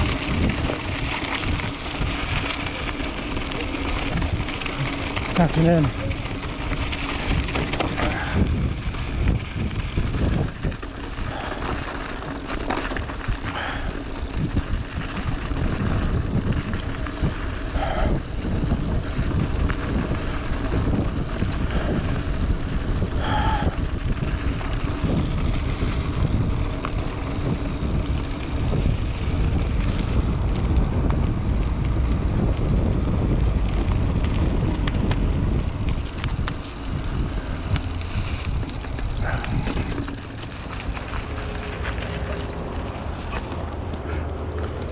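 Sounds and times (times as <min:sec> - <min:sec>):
wind buffeting microphone: 0:00.0 - 0:43.8
bike rattling and clicking: 0:00.0 - 0:44.9
tyres rumbling on gravel: 0:00.0 - 0:44.9.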